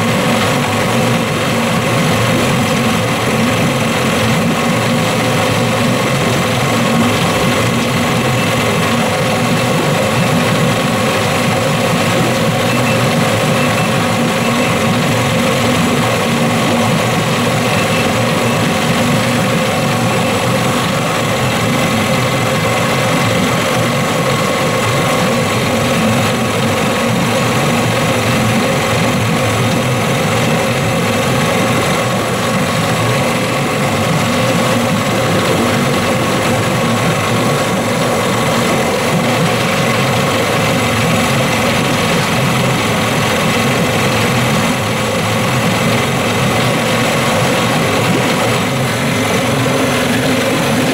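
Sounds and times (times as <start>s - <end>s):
outboard motor running: 0.0s - 50.9s.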